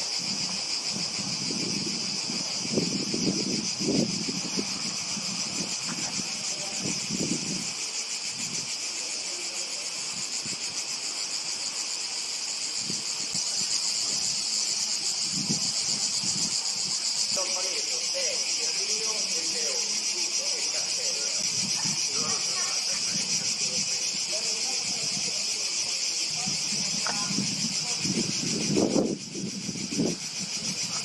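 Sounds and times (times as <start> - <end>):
cicadas buzzing: 0.0 - 31.0.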